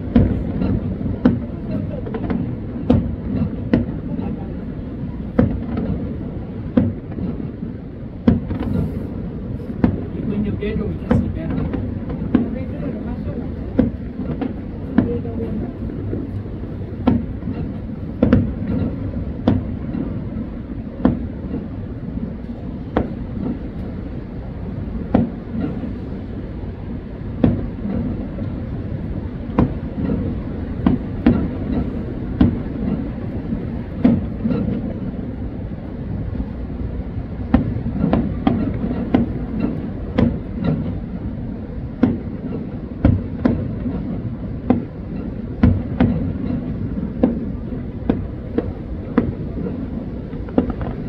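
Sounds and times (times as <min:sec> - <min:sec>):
fireworks bursting: 0:00.0 - 0:26.6, 0:27.3 - 0:35.4, 0:37.4 - 0:51.0
steady low rumble: 0:00.0 - 0:51.0.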